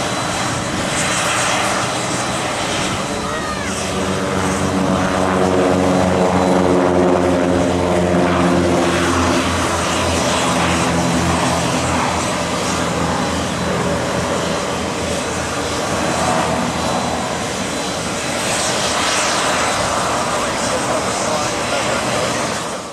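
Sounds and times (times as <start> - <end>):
broad rushing noise: 0.0 - 22.9
propeller engine drone: 0.0 - 22.9.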